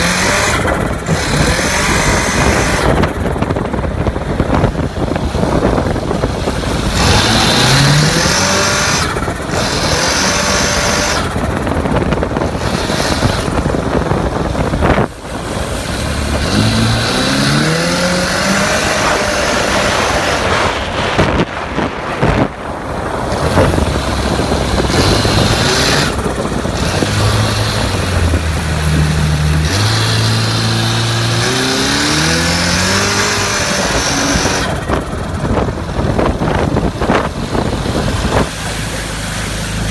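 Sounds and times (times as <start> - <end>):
jet ski engine revving: 0.0 - 39.9.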